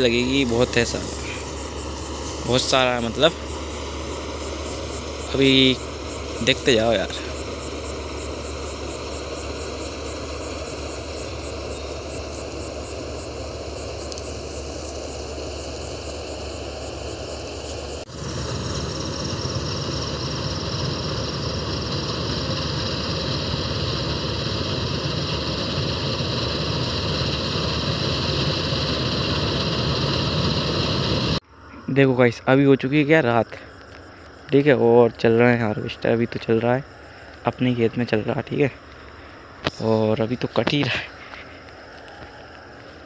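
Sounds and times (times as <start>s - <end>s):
combine harvester running: 0.0s - 31.4s, 36.8s - 43.0s.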